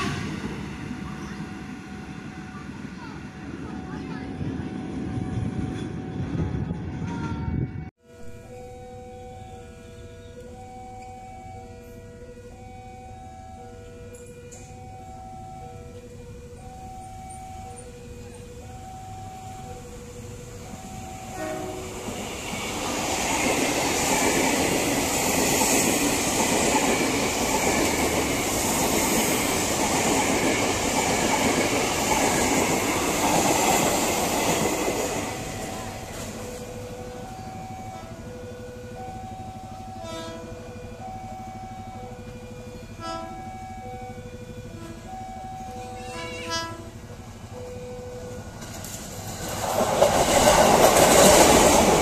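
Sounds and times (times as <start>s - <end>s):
train wheels rushing on rails: 0.0s - 7.9s, 16.0s - 47.6s, 48.2s - 52.0s
level-crossing warning tones: 0.0s - 52.0s.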